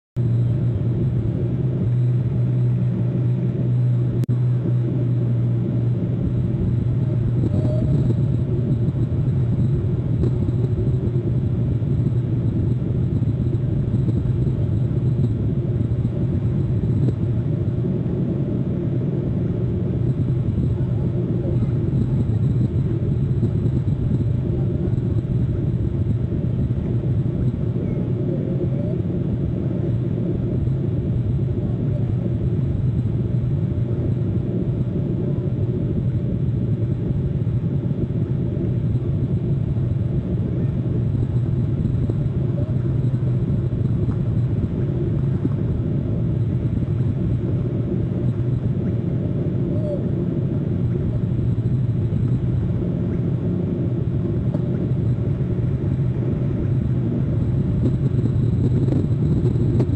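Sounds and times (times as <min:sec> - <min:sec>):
low outdoor rumble: 0:00.2 - 0:59.9.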